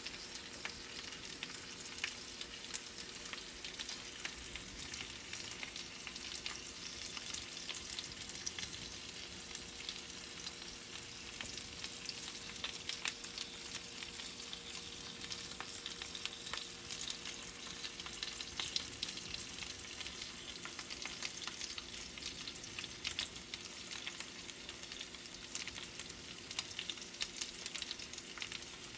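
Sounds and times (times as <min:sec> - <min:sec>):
faint steady hum: 0:00.0 - 0:28.9
fat sizzling with pops and crackles: 0:00.0 - 0:28.9.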